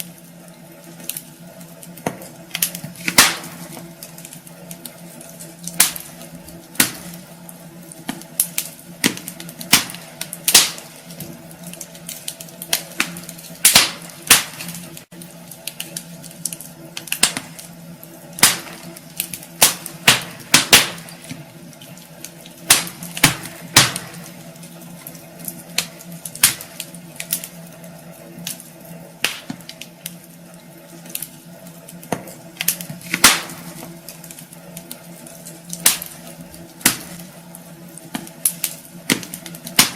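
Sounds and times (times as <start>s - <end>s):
faint steady hum: 0.0s - 39.9s
logs crackling and popping: 0.0s - 39.9s.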